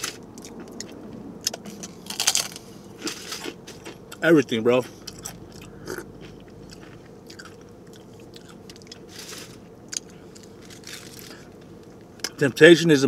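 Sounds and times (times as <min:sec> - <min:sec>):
person chewing: 0:00.0 - 0:04.2, 0:04.8 - 0:12.4.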